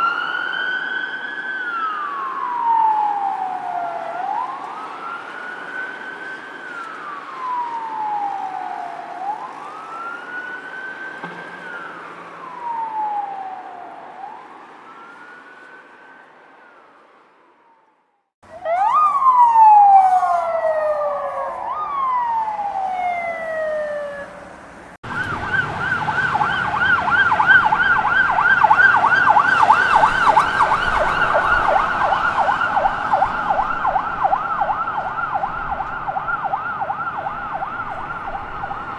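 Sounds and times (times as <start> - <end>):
siren sweeping down: 0.0 - 15.5, 18.5 - 24.4, 25.0 - 38.9
rapid siren yelp: 0.0 - 15.9, 18.4 - 24.4, 25.0 - 38.9
police siren slow wail: 0.0 - 38.9.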